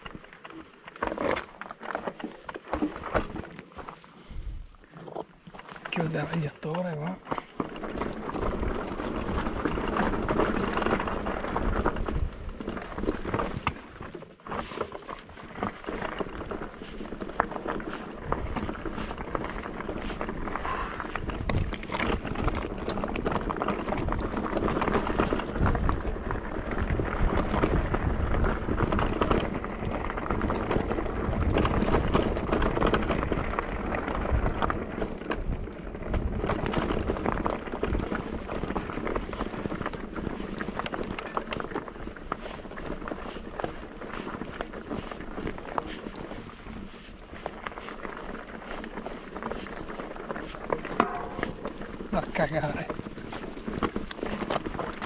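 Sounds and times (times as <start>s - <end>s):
bike rattling: 0.0s - 55.0s
tyres rumbling on rough trail: 0.0s - 55.0s.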